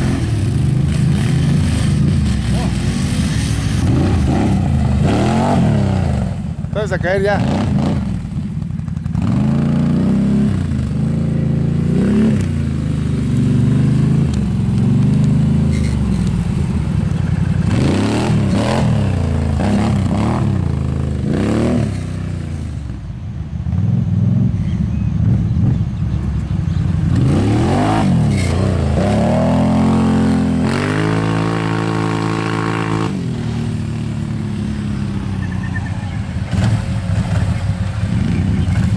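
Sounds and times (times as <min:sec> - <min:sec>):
motorbike engine revving: 0:00.0 - 0:23.0, 0:23.7 - 0:38.9.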